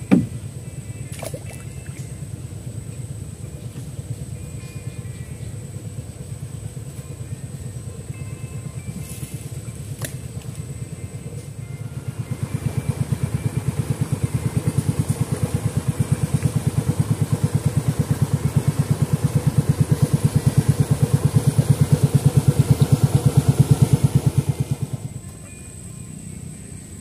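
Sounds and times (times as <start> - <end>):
boat engine passing: 0.0 - 27.0.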